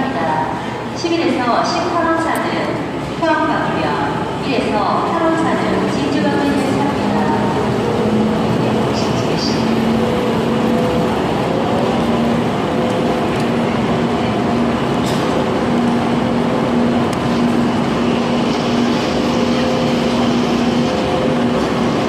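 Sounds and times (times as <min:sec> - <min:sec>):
train running noise: 0:00.0 - 0:22.0.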